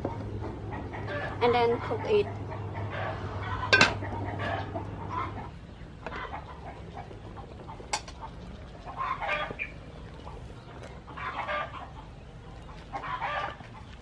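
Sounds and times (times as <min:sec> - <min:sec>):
chickens clucking: 0:00.0 - 0:14.0
steady low rumble: 0:00.0 - 0:14.0.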